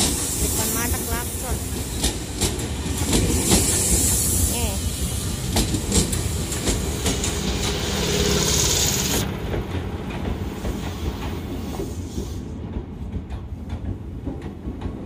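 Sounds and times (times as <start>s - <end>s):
hiss of train wheels: 0.0s - 15.0s
train wheels clicking over joints: 0.0s - 15.0s.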